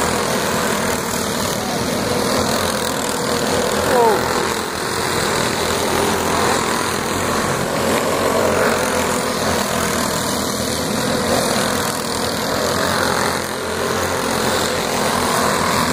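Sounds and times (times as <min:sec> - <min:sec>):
go-kart engines racing: 0:00.0 - 0:15.9.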